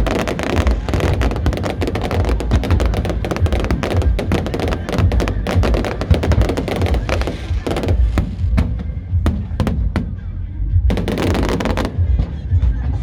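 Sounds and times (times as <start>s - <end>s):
fireworks bangs and crackles: 0.0s - 12.7s
low rumble: 0.0s - 13.0s.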